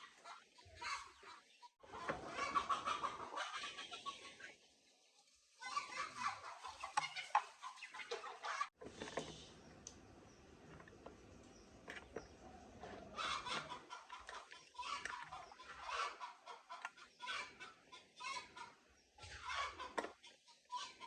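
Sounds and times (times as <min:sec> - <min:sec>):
chickens clucking: 0:00.0 - 0:04.8, 0:05.6 - 0:09.5, 0:10.3 - 0:21.0.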